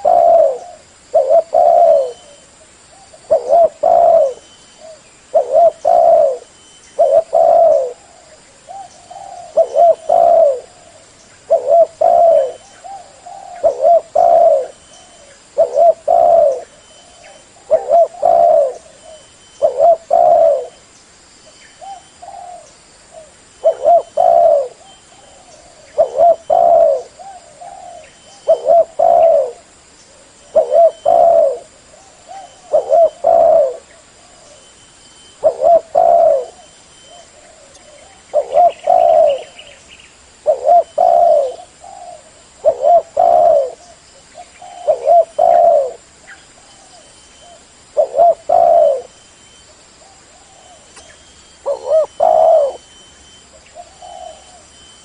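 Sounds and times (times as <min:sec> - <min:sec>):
dove cooing: 0:00.0 - 0:20.8, 0:21.8 - 0:49.2, 0:50.0 - 0:55.0.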